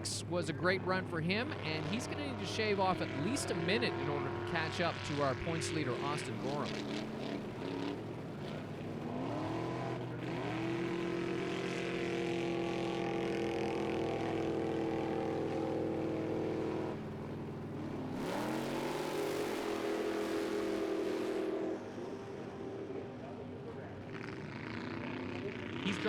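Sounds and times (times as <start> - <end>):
truck engine revving hard: 1.4 - 22.6.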